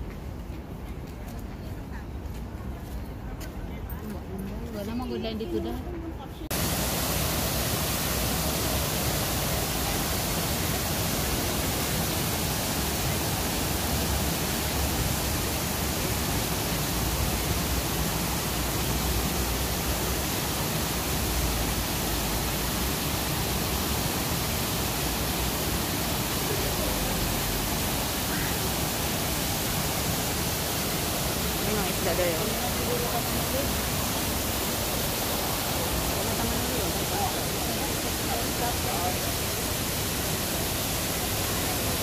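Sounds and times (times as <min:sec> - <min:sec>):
waterfall rushing: 0:06.5 - 0:42.0.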